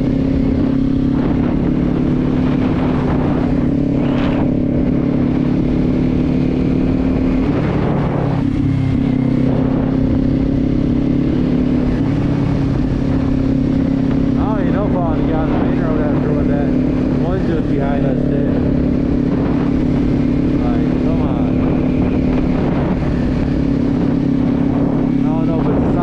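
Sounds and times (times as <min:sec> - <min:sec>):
motorcycle engine running: 0:00.0 - 0:26.0
road and wind noise: 0:00.0 - 0:26.0.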